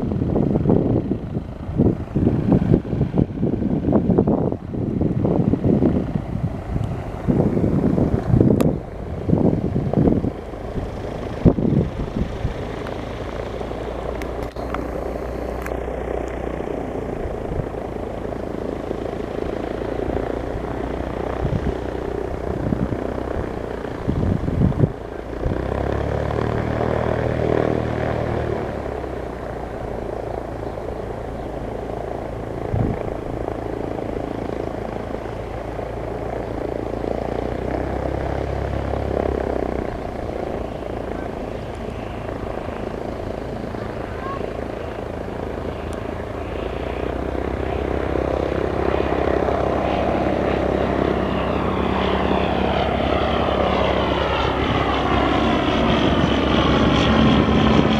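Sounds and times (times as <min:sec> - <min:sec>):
propeller airplane engine drone: 0:00.0 - 0:57.9
wind gusts on microphone: 0:00.0 - 0:57.9.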